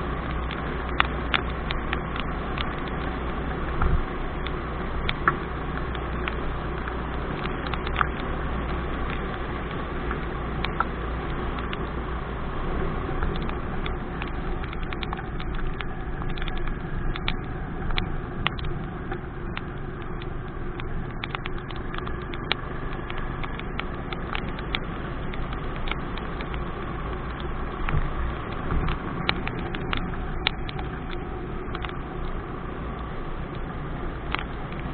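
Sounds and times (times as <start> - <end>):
raindrops ticking on microphone: 0.0 - 34.9.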